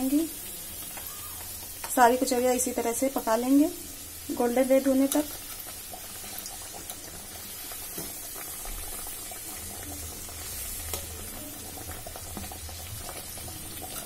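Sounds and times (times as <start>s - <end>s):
deep-frying oil sizzling and bubbling: 0.0s - 14.0s.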